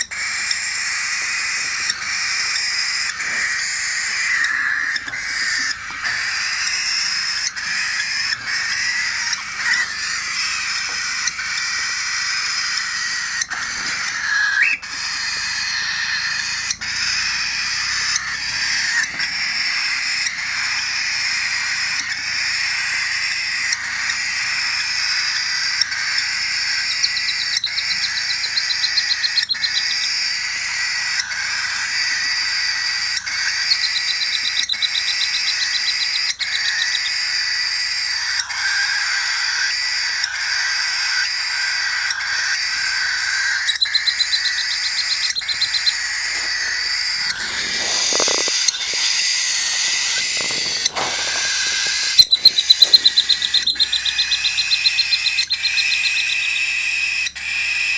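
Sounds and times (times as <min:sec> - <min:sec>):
cockatiels calling: 0:00.0 - 0:57.9.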